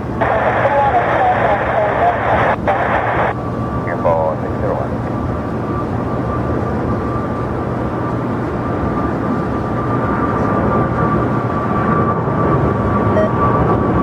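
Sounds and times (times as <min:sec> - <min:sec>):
jet airliner engines running: 0:00.0 - 0:14.0.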